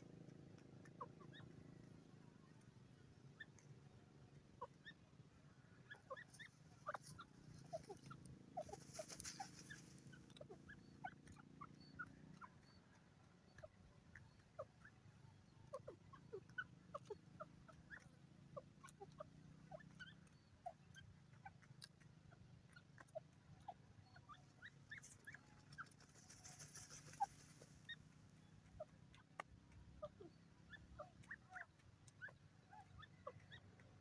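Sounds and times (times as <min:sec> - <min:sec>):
bird peeping: 0:00.0 - 0:34.0.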